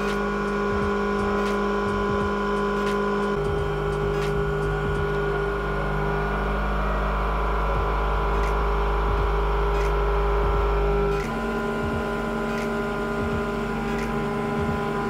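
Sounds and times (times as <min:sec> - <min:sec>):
milling machine whine: 0:00.0 - 0:15.0.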